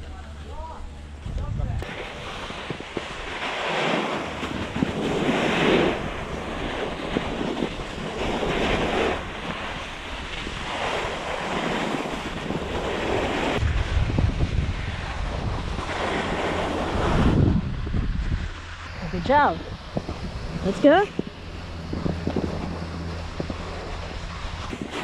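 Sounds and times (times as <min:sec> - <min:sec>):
deep wind rumble: 0:00.0 - 0:25.0
wind rushing over microphone: 0:00.6 - 0:25.0
boards hissing over snow: 0:01.9 - 0:25.0.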